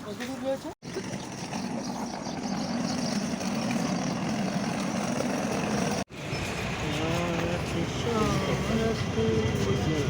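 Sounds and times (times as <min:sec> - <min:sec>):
busy outdoor market din: 0:00.0 - 0:10.0
engine-like hum: 0:00.8 - 0:10.0.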